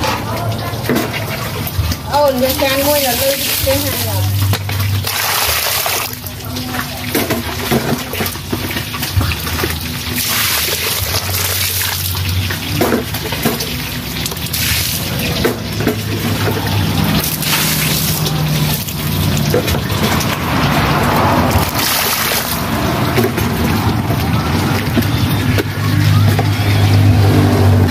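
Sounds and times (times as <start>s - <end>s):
water splashing into basin: 0.0s - 27.9s
water trickling: 0.0s - 27.9s.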